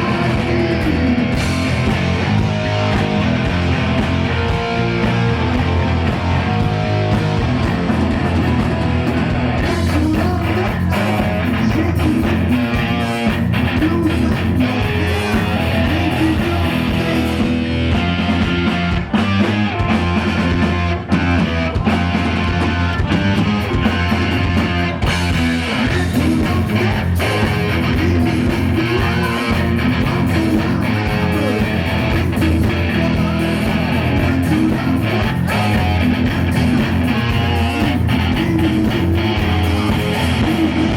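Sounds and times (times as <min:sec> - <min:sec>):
heavy metal band playing live: 0:00.0 - 0:40.9.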